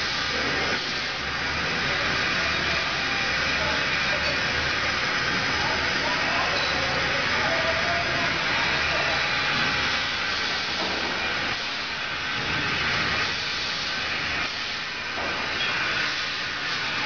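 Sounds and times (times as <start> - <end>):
hissing factory noise: 0.0 - 17.0
motor-driven stirrers running: 0.0 - 17.0.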